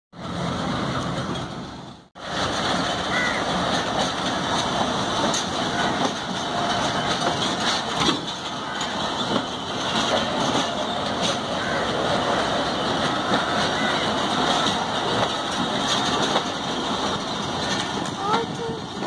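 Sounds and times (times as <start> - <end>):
train coaches rumbling on rails: 0.1 - 19.0.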